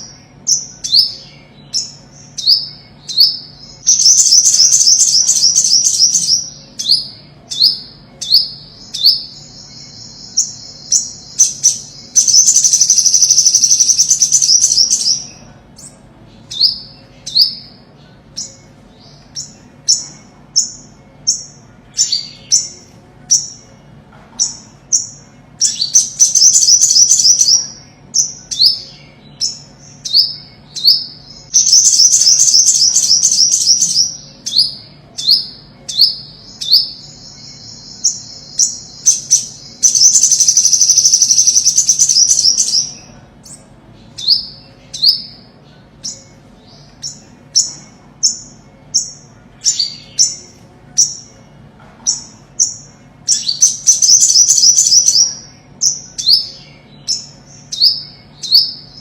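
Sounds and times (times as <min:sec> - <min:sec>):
bird chirping and trilling: 0:00.0 - 0:59.0.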